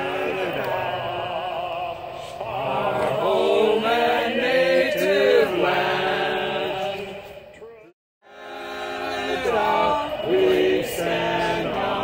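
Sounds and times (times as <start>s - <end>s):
group singing held notes: 0.0s - 7.4s, 8.2s - 12.0s.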